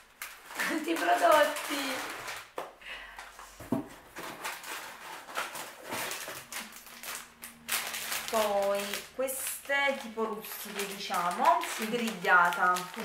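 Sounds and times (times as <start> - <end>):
plastic snack bags crinkling: 0.0 - 13.0.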